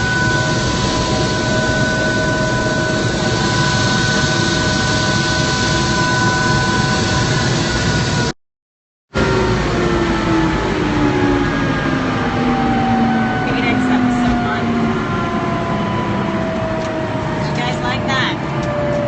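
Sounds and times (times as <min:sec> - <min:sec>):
helicopter turbine and rotors: 0:00.0 - 0:08.4, 0:09.2 - 0:19.0.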